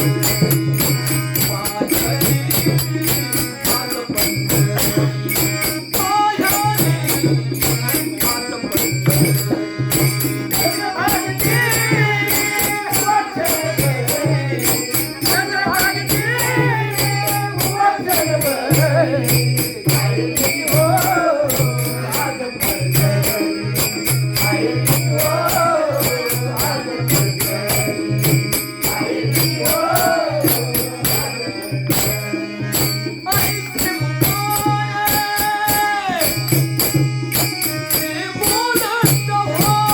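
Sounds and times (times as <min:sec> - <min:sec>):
fast percussion strokes: 0:00.0 - 0:39.9.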